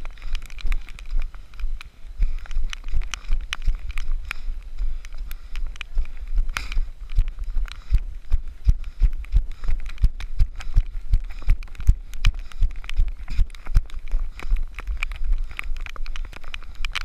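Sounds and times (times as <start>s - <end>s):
footfalls on dirt track: 0.0s - 17.0s.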